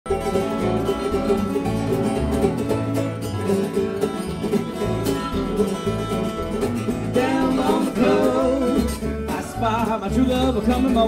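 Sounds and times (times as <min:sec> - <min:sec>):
mandolin: 0:00.1 - 0:11.0
resonator guitar: 0:00.1 - 0:11.0
strummed acoustic guitars: 0:00.1 - 0:11.0
upright bass: 0:00.1 - 0:11.0.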